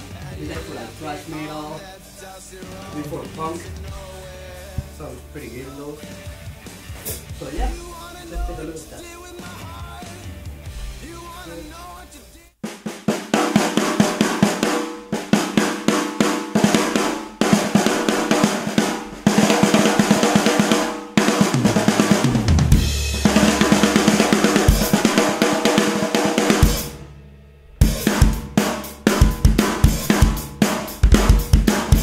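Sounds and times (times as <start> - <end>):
drum kit playing fast groove: 0.0 - 1.8, 2.6 - 11.6, 12.6 - 32.0.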